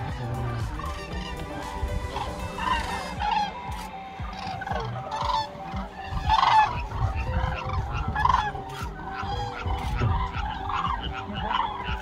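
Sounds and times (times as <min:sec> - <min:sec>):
flock of cranes trumpeting: 0:00.0 - 0:12.0.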